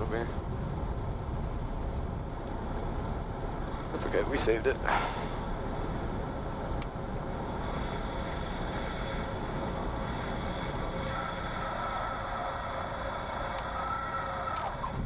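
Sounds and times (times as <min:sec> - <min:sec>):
aircraft engine at low power: 0:00.0 - 0:15.0.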